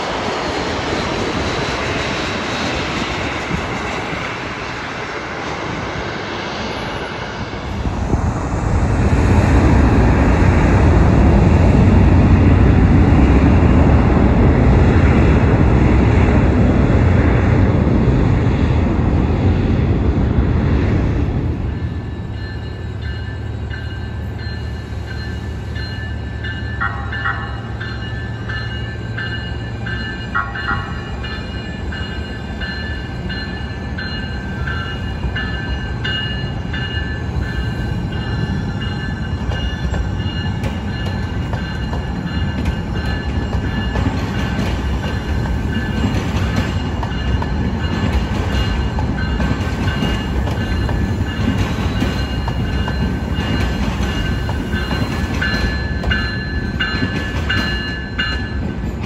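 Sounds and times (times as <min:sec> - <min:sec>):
trolley wheels rumbling on rails: 0:06.5 - 0:59.0.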